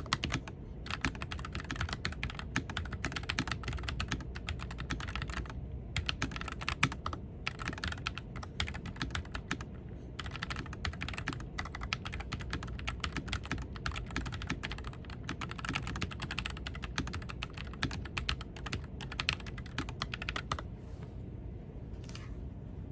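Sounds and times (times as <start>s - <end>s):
fast typing on mechanical keyboard: 0.0s - 20.6s
steady low hum: 0.0s - 22.9s.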